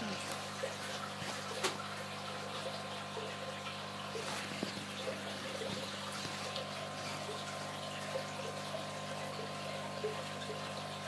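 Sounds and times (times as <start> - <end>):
aquarium water trickling and bubbling: 0.0 - 11.0
pumps humming: 0.0 - 11.0
small water splashes: 0.0 - 11.0.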